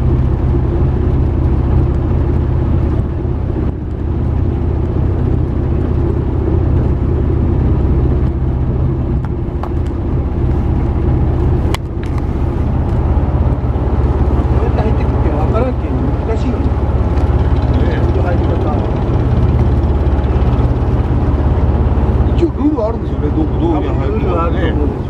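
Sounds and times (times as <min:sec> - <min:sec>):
boat engine droning: 0:00.0 - 0:25.0
water and wind noise: 0:00.0 - 0:25.0.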